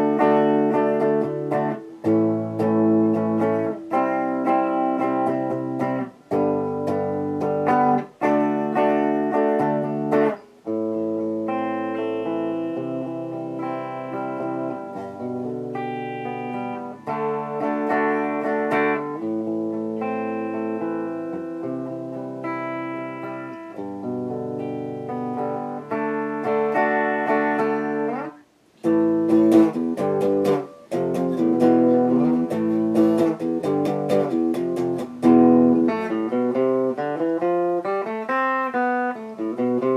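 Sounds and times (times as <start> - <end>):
guitar music: 0.0 - 39.9.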